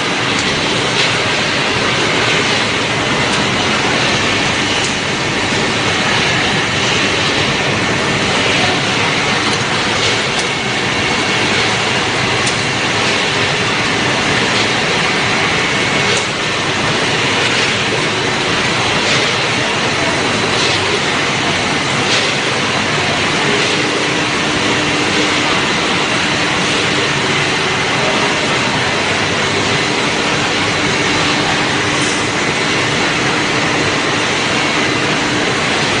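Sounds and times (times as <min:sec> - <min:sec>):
food processing machinery din: 0:00.0 - 0:36.0.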